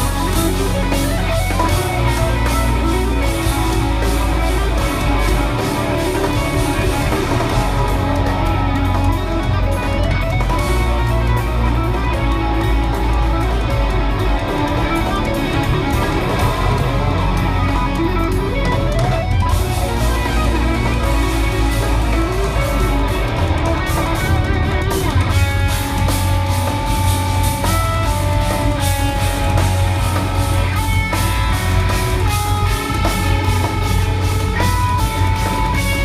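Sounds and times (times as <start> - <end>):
live metal band playing: 0.0 - 36.0.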